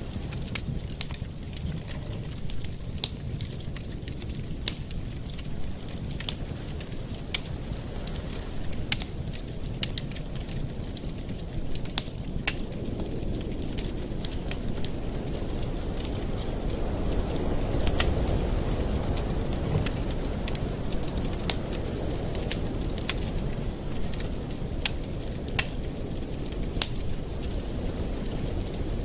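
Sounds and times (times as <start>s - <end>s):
campfire wood crackling: 0.0s - 29.0s.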